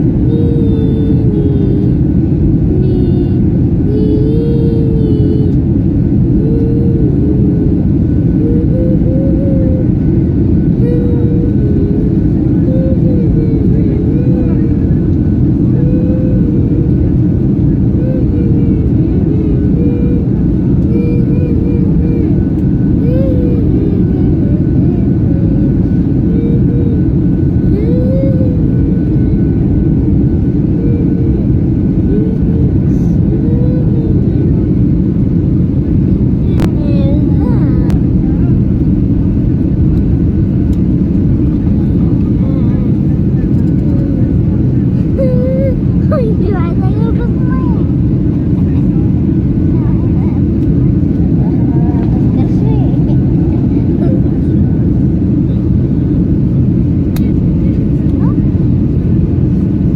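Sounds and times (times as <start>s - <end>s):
airliner engine rumble: 0.0s - 59.9s.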